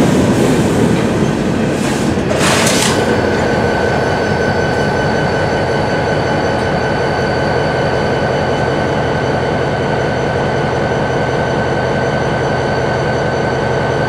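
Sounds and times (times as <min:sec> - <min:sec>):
diesel locomotive: 0:00.0 - 0:14.0
freight train rolling on track: 0:00.0 - 0:14.0.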